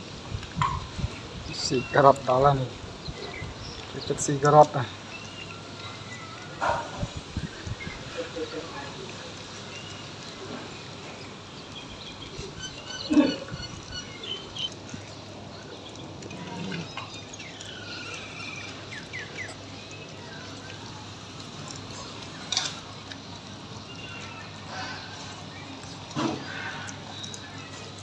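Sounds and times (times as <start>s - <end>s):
puppies chewing and smacking: 0.3s - 28.0s.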